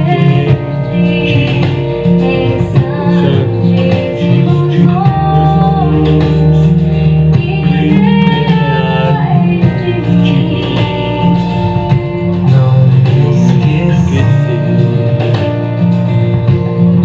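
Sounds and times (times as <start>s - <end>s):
person singing: 0.0s - 15.6s
guitar accompaniment: 0.0s - 17.0s
steady bass line: 0.0s - 17.0s.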